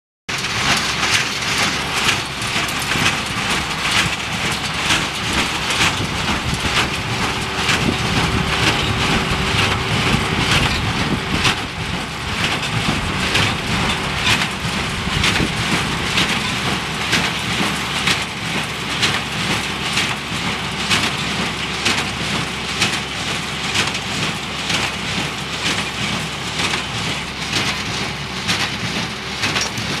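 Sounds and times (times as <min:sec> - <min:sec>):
tractor engine rumble: 0:00.3 - 0:30.0.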